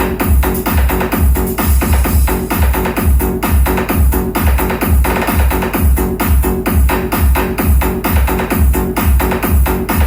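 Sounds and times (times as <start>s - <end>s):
electronic dance music: 0.0s - 10.0s
heavy bass kick: 0.0s - 10.0s.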